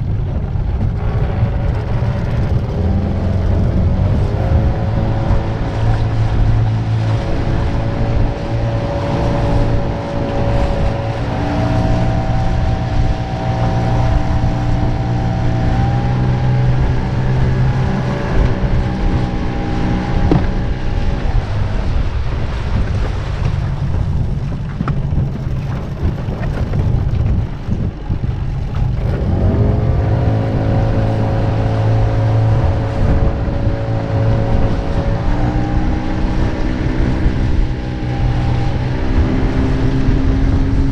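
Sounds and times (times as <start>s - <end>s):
outboard motor running: 0.0s - 40.9s.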